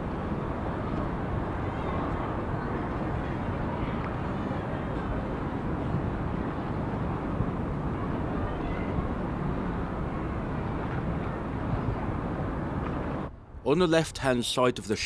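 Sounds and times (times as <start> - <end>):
low rumbling outdoor background noise: 0.0 - 15.0.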